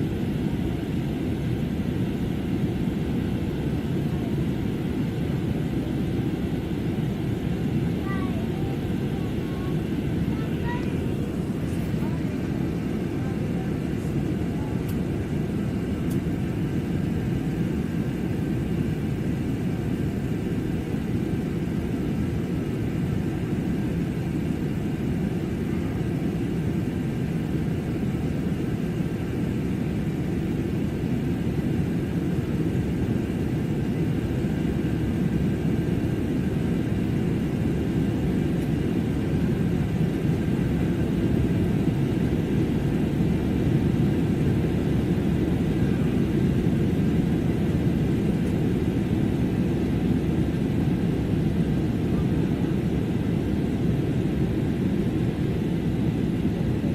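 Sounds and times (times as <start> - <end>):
jet airliner cabin noise: 0.0 - 56.9.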